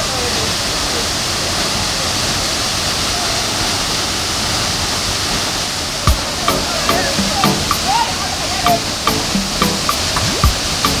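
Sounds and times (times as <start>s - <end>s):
waterfall pouring over rocks: 0.0s - 11.0s.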